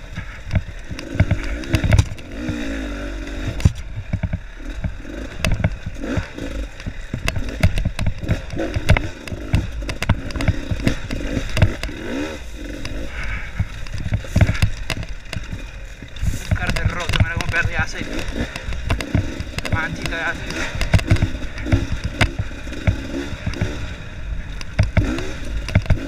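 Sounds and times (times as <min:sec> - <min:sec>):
dirt bike engine running: 0:00.0 - 0:26.0
wheels clattering over stones: 0:00.0 - 0:26.0.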